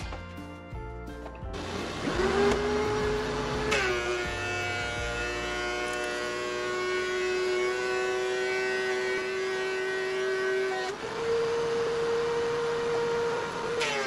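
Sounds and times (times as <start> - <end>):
thickness planer whining: 1.6 - 14.0.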